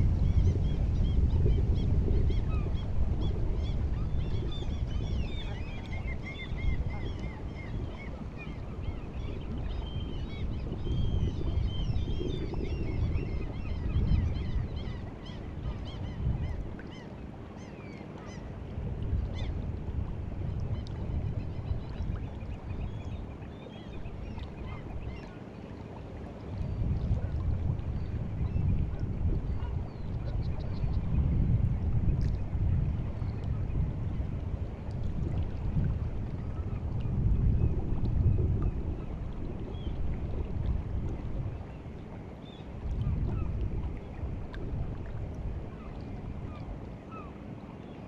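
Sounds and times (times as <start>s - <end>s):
wind and water rumble: 0.0s - 48.0s.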